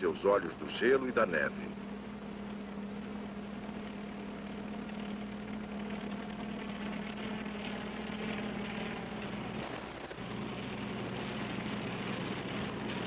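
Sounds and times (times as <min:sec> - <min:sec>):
helicopter droning: 0:00.0 - 0:13.0.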